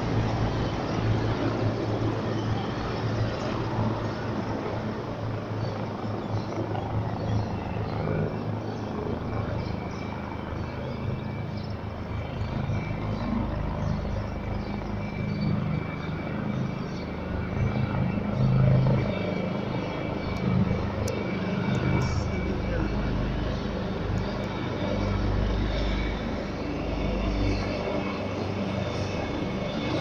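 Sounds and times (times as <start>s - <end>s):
helicopter rotor and engine drone: 0.0s - 30.0s
high engine whine: 0.0s - 30.0s.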